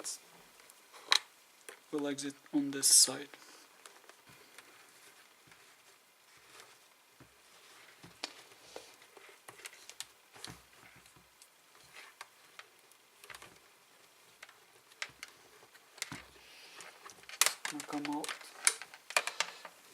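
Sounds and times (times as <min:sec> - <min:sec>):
clicks taps and rustles of handling: 0:03.3 - 0:19.9.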